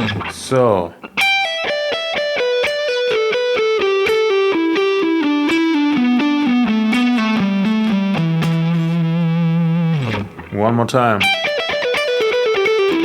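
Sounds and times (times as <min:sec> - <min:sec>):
electric guitar pull-offs: 0:01.0 - 0:10.6, 0:11.2 - 0:13.0.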